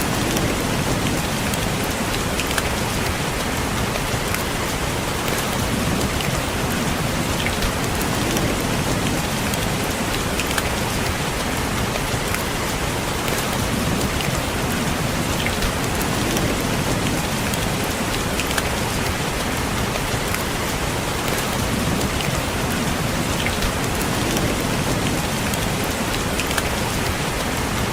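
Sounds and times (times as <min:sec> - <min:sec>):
rain on a window: 0:00.0 - 0:27.9
sharp taps of raindrops: 0:00.0 - 0:27.9.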